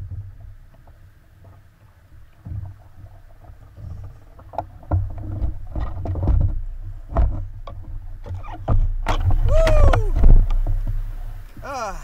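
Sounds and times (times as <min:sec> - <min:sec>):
kayak splashing and knocking: 0:00.0 - 0:12.0
wind rumble on microphone: 0:02.2 - 0:12.0.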